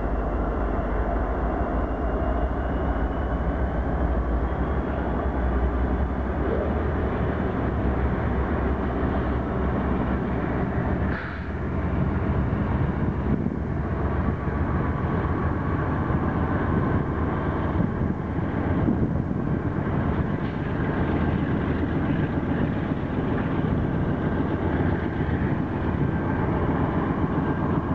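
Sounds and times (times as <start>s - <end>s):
freight train passing: 0.0s - 27.9s.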